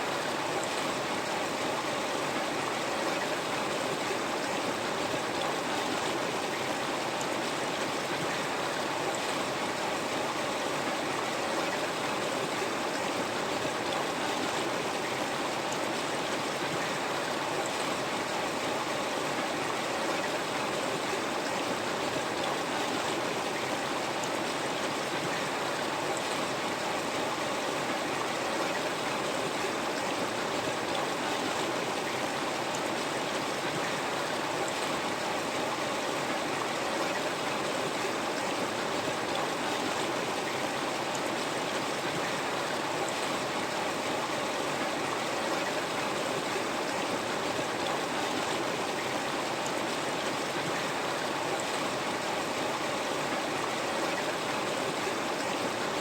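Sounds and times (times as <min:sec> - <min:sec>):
river water over rocks: 0:00.0 - 0:56.0.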